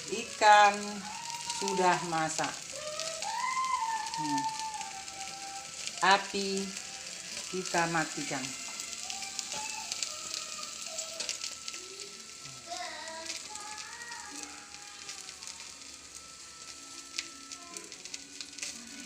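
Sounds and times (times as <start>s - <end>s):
fish sizzling on a grill pan: 0.0s - 19.0s.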